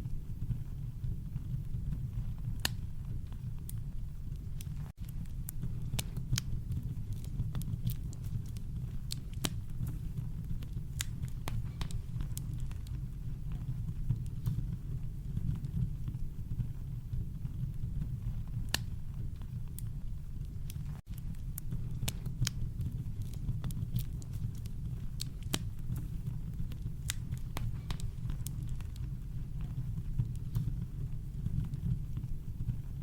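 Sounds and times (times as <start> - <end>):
deep fire rumble: 0.0 - 33.0
campfire pops and snaps: 1.4 - 16.2, 17.4 - 32.8.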